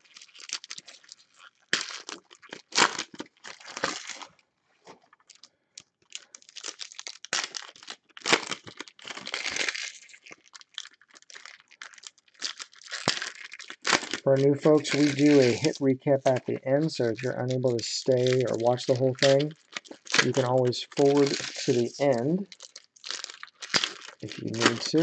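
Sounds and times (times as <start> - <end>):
foil wrappers crackling: 0.0 - 4.4, 5.1 - 25.0.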